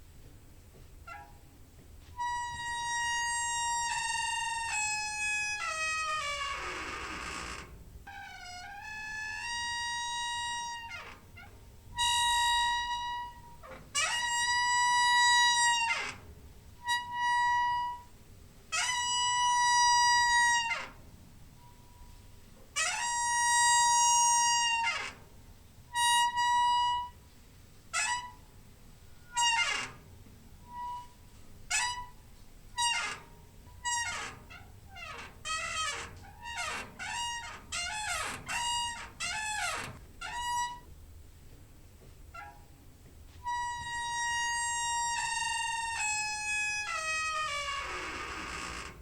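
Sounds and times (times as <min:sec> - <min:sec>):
door hinge squeaking: 0:01.0 - 0:01.5, 0:02.2 - 0:18.1, 0:18.7 - 0:21.0, 0:22.8 - 0:25.3, 0:25.9 - 0:27.2, 0:27.9 - 0:28.5, 0:29.1 - 0:40.9, 0:42.3 - 0:42.8, 0:43.4 - 0:49.0.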